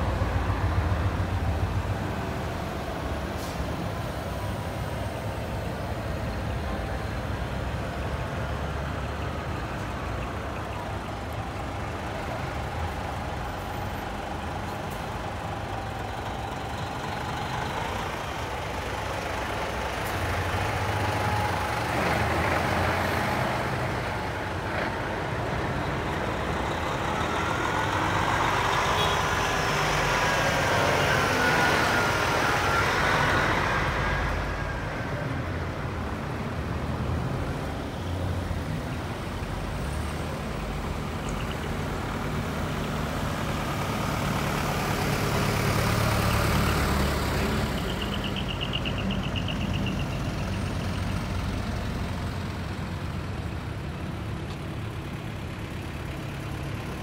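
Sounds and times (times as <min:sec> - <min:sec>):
heavy truck diesel engines: 0:00.0 - 0:57.0.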